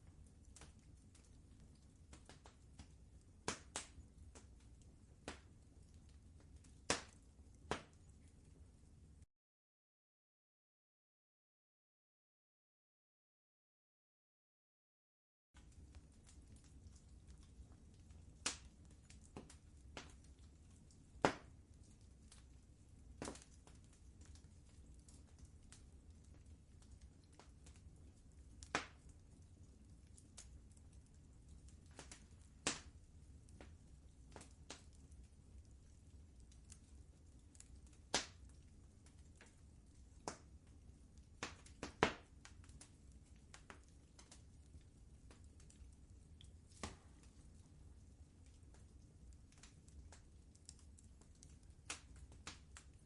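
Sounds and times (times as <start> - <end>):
wood fire crackling: 0.0 - 9.2, 15.6 - 53.0
faint low rumble: 0.0 - 9.3, 15.6 - 53.0.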